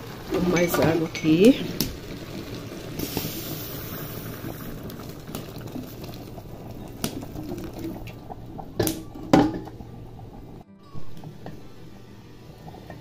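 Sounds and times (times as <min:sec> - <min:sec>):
water pouring into pot: 0:00.0 - 0:10.6
water boiling: 0:00.0 - 0:13.0.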